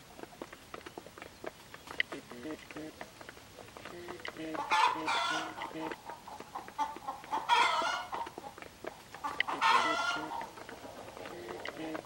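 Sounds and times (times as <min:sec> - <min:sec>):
beaks pecking grain on concrete: 0:00.0 - 0:12.0
chickens clucking: 0:00.0 - 0:12.0.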